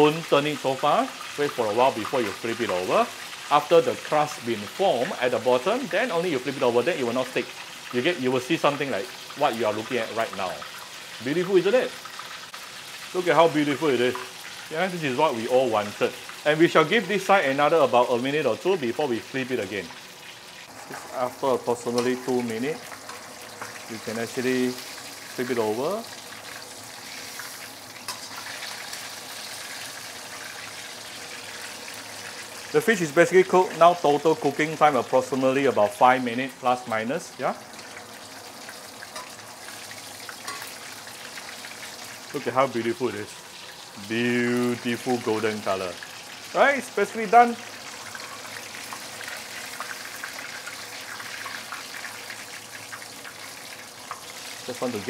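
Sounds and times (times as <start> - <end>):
hot oil sizzling and bubbling: 0.0 - 55.0.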